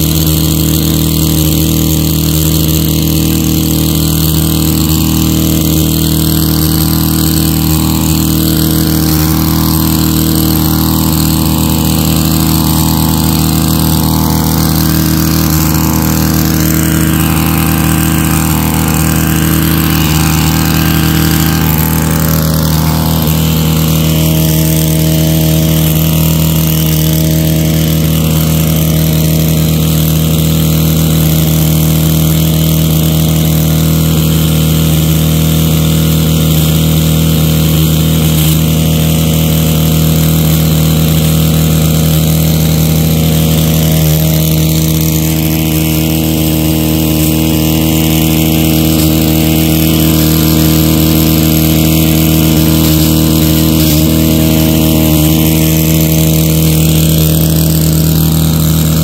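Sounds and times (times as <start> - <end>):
small engine running steadily: 0.0 - 59.0.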